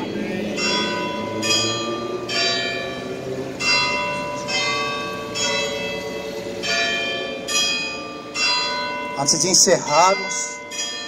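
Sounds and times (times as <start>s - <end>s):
bells ringing: 0.0s - 11.0s.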